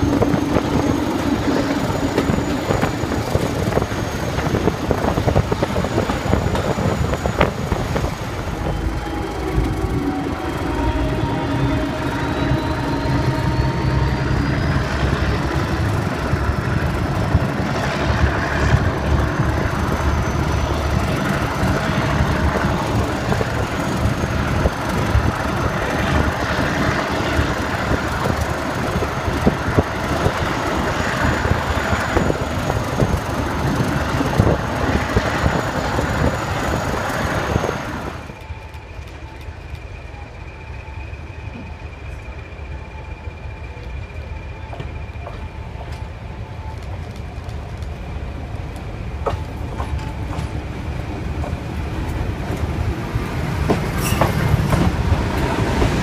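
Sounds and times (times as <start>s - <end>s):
wheels clattering on rail: 0.0s - 40.3s, 46.8s - 56.0s
diesel locomotive engine din: 0.0s - 56.0s.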